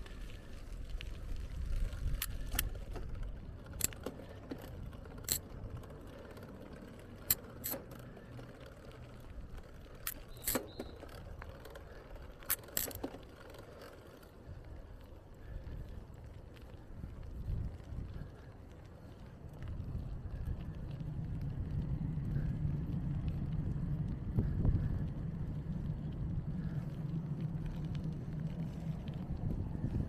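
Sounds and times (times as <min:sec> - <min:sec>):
bicycle clicks and rattles: 0:00.0 - 0:30.0
wind and road rumble: 0:00.0 - 0:30.0.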